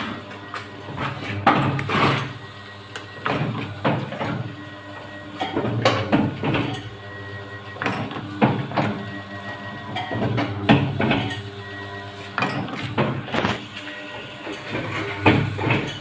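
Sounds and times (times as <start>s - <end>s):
motor hum: 0.0s - 16.0s.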